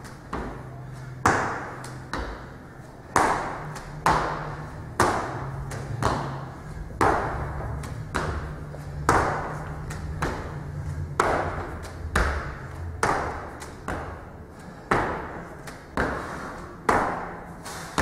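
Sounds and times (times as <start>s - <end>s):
feet thudding on tire and floor: 0.0s - 18.0s
low steady hum: 0.0s - 18.0s.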